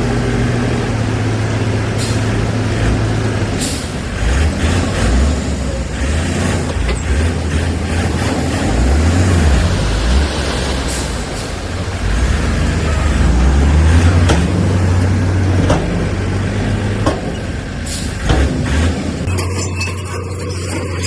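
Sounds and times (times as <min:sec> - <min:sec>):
diesel machinery engine rumble: 0:00.0 - 0:21.0.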